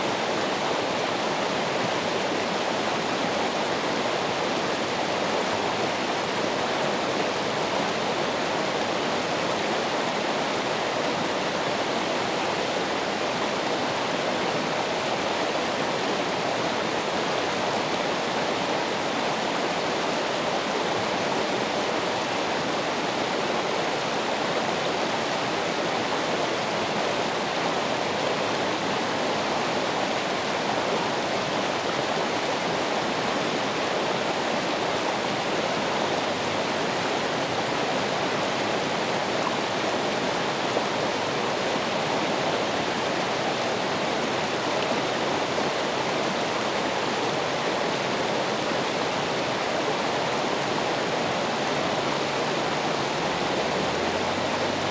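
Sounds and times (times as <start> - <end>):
running water flowing: 0.0 - 54.9.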